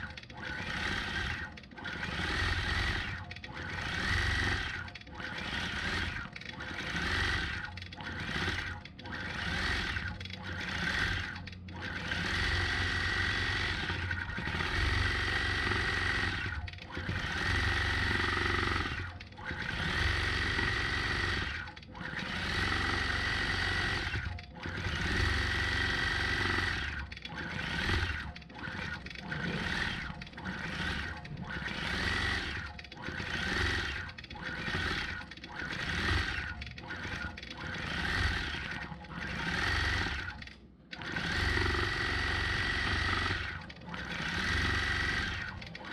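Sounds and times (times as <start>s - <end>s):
quilting machine stitching: 0.0s - 45.9s.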